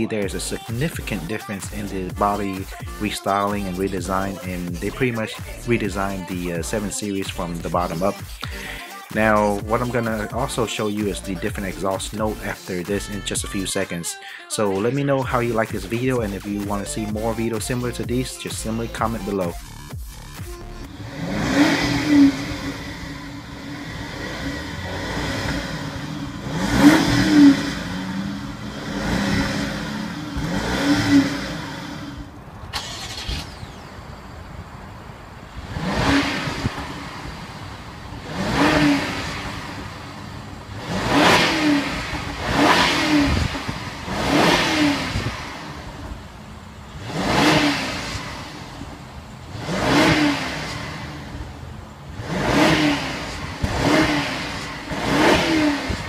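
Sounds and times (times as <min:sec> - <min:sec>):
car engine revving: 0:00.0 - 0:13.8, 0:15.2 - 0:56.0
car engine idling: 0:00.0 - 0:14.0, 0:15.2 - 0:56.0.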